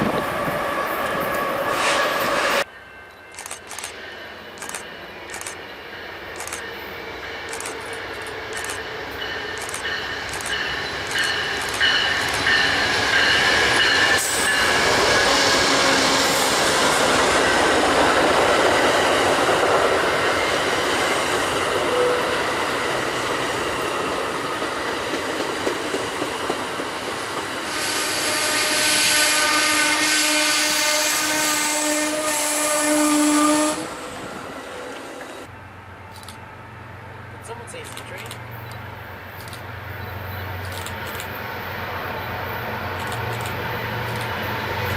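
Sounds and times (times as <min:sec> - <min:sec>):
train wheels on rail: 0:00.0 - 0:36.8, 0:37.5 - 0:44.9.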